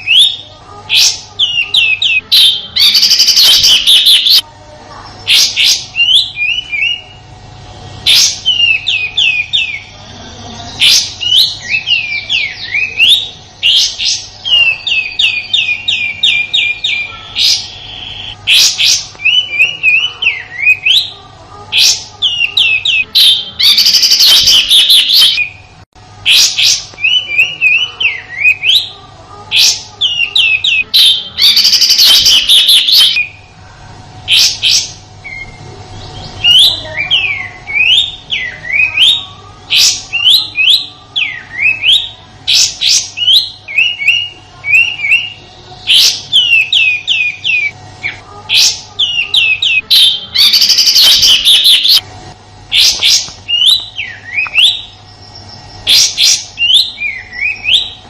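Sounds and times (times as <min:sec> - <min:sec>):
bird chirping and whistling: 0:00.0 - 0:04.4, 0:05.2 - 0:07.3, 0:08.0 - 0:10.0, 0:10.6 - 0:33.5, 0:34.3 - 0:52.0, 0:52.7 - 0:58.0
harsh rasping bird calls: 0:00.0 - 0:04.4, 0:08.0 - 0:25.6, 0:26.3 - 0:33.4, 0:34.3 - 0:52.0, 0:52.7 - 0:58.0.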